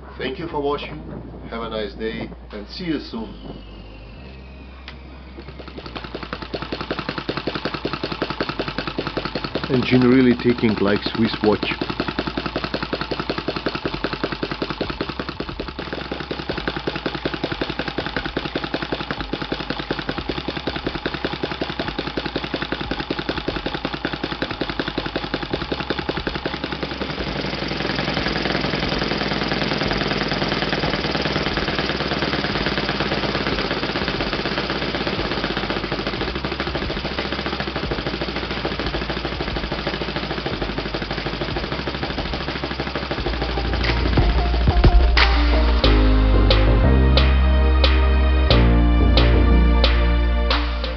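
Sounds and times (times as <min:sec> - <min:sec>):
model engine running with propeller: 0:03.3 - 0:45.9.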